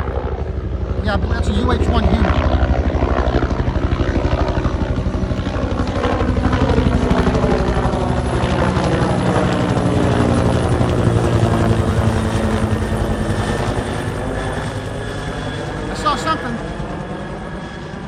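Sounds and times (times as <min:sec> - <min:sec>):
helicopter turbine noise: 0:00.0 - 0:18.0
helicopter rotor thumping: 0:00.1 - 0:17.1.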